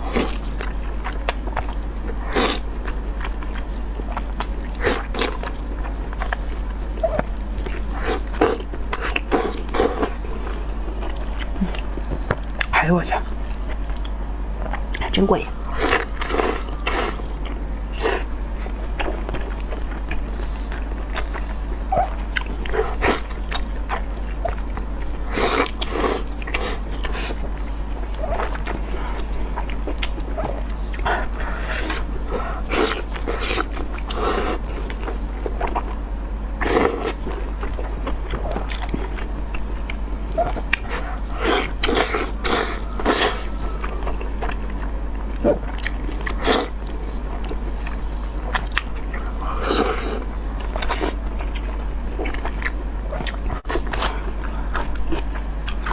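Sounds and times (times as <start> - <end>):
low hum: 0.0 - 55.9
wet chewing sounds: 0.0 - 55.9.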